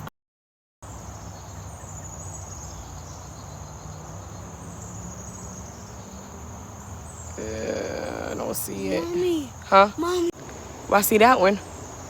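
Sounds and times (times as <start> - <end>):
insects trilling: 1.9 - 12.0.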